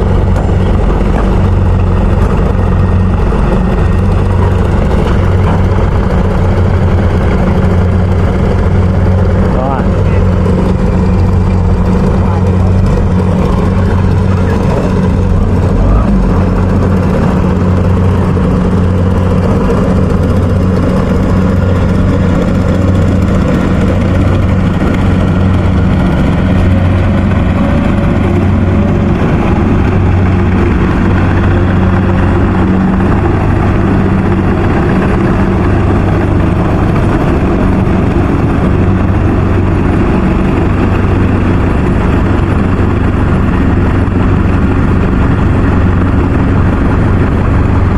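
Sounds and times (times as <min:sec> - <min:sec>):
harvester diesel engine running: 0:00.0 - 0:47.9.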